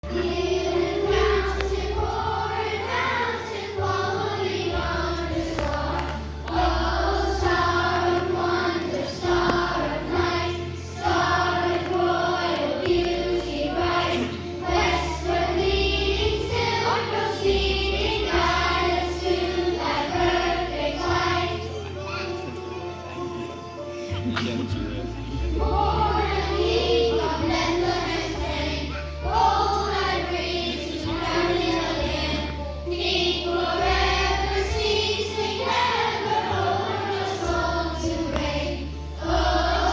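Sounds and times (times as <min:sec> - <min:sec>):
choir singing: 0:00.0 - 0:24.4, 0:25.0 - 0:39.9
instrumental accompaniment: 0:00.0 - 0:39.9.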